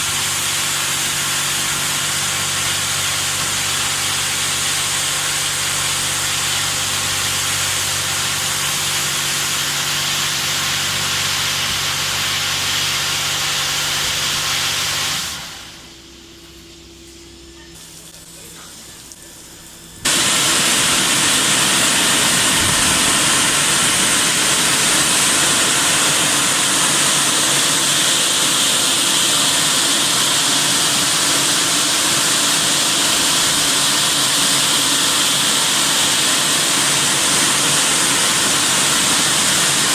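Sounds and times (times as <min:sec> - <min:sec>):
water spray hiss: 0:00.0 - 0:15.9, 0:20.0 - 0:39.9
high-pressure pump hum: 0:00.0 - 0:39.9.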